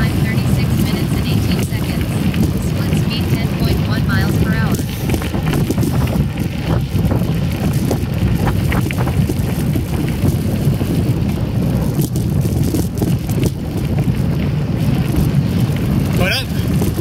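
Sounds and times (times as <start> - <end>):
bike rattles and clicks: 0.0 - 17.0
bike tyres rolling on gravel: 0.0 - 17.0
wind on microphone: 0.0 - 17.0.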